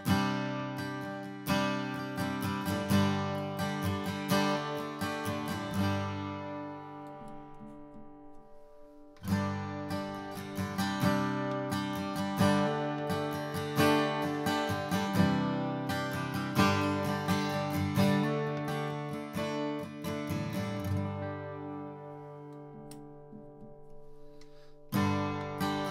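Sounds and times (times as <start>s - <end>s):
acoustic guitar strumming: 0.0s - 25.9s.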